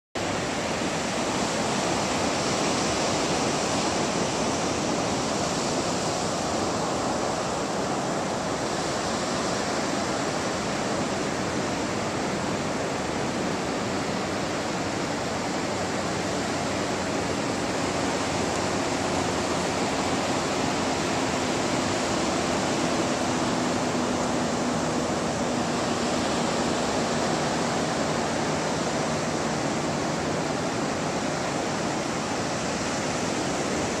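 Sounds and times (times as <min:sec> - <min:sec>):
ocean surf breaking: 0:00.2 - 0:34.0.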